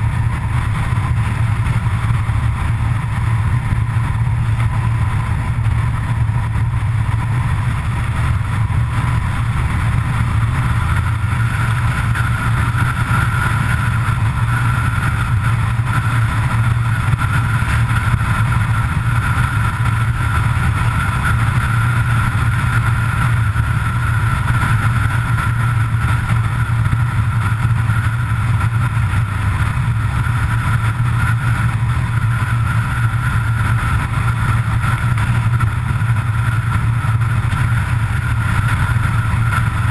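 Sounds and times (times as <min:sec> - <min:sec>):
road and wind noise: 0:00.0 - 0:39.9
vehicle engine and tyres hum: 0:00.0 - 0:39.9.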